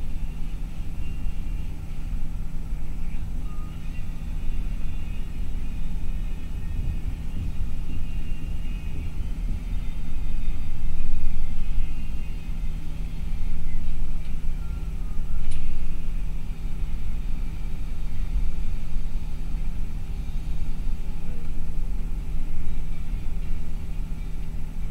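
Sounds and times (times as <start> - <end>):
bus engine drone and road noise: 0.0 - 24.9
low steady hum: 0.0 - 24.9.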